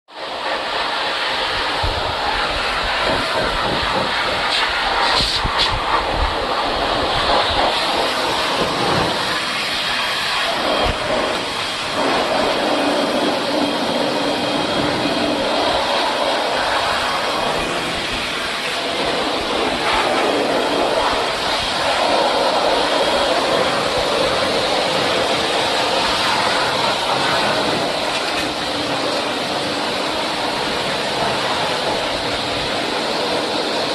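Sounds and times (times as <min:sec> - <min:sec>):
high-pressure water spray hissing: 0:00.1 - 0:33.9.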